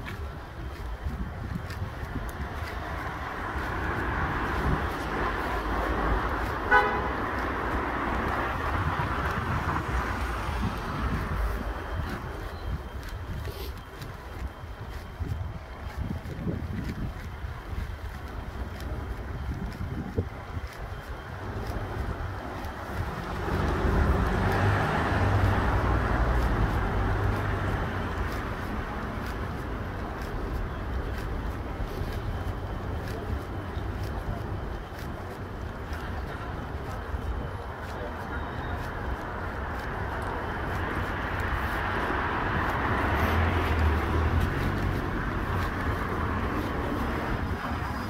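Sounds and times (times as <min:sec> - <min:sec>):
passing vehicle rumble: 0:00.0 - 0:48.0.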